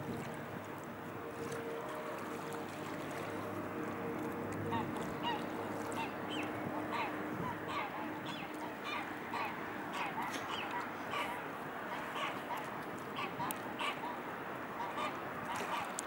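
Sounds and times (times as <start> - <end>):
river water rushing: 0.0 - 16.0
waterbirds honking: 0.1 - 16.0.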